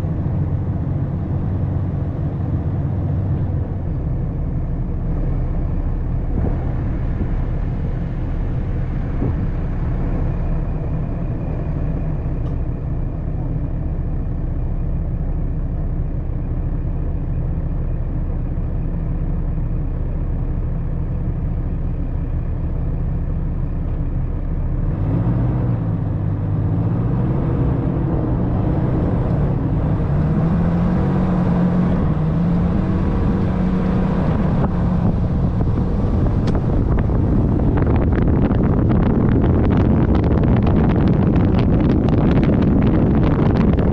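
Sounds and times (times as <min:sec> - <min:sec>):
pickup truck engine: 0:00.0 - 0:43.9
tyres on dirt track: 0:00.0 - 0:43.9.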